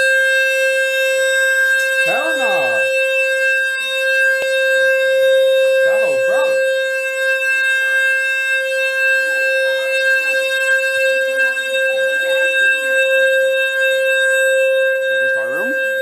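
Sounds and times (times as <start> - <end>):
fire alarm steady electronic tone: 0.0 - 16.0.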